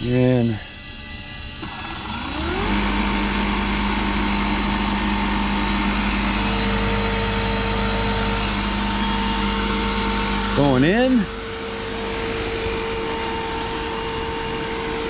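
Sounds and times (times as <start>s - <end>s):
recovery machine motor humming: 0.0s - 15.0s.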